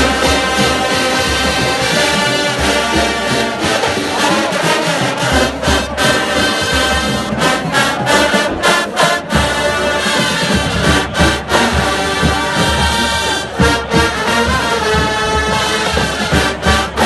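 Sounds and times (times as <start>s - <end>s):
marching band brass: 0.0s - 17.0s.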